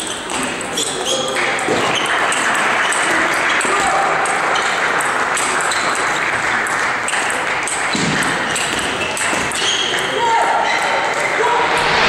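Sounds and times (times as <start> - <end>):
busy hall noise: 0.0 - 12.0.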